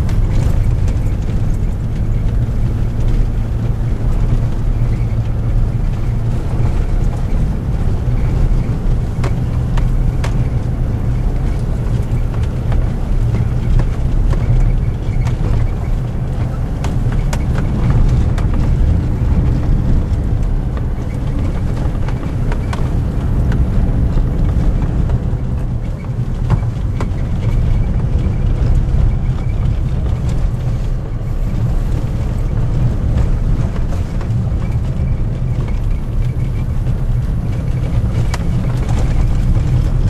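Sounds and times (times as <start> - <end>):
engine and tyres rumbling: 0.0 - 40.0
small knocks and rattles: 0.0 - 40.0.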